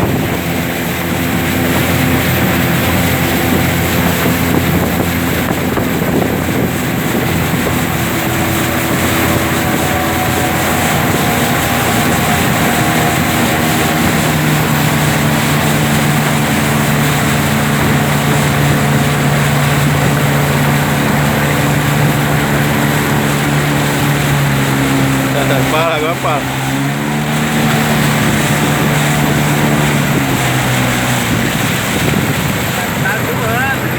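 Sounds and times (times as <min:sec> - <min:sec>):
broad rushing noise: 0:00.0 - 0:33.9
motorboat engines racing: 0:00.0 - 0:33.9.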